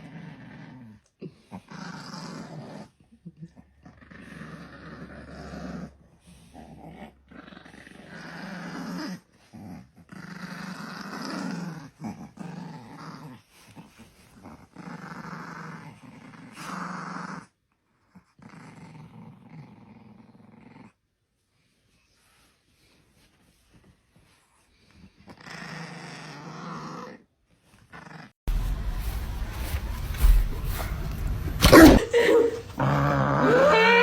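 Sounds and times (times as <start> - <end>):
dog growling: 0.0 - 21.0, 24.9 - 28.9, 29.8 - 34.0.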